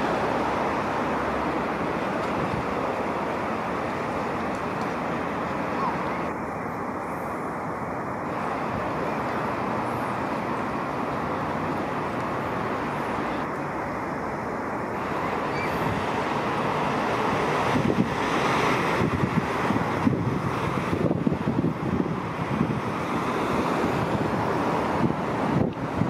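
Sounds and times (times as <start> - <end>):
cars driving past: 0.0 - 26.0
wind gusts on microphone: 0.0 - 26.0.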